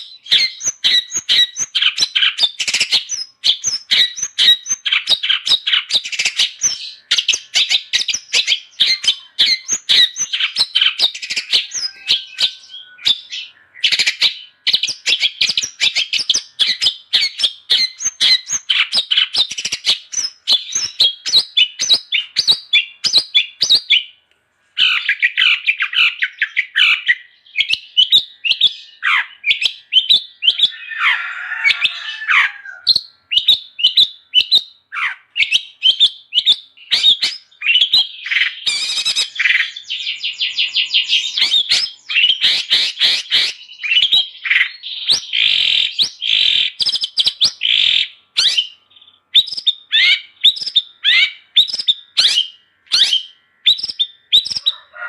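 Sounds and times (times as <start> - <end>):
shrike chattering song: 0.0 - 24.0, 29.1 - 54.8.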